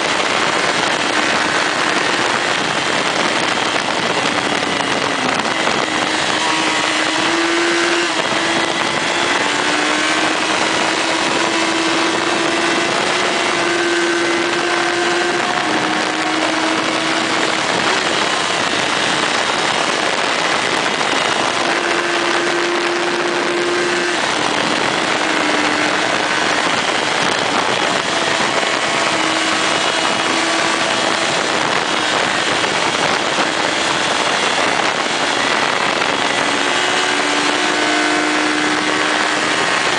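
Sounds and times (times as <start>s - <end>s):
motorcycle engine running: 0.0s - 39.9s
wind noise rushing: 0.0s - 39.9s.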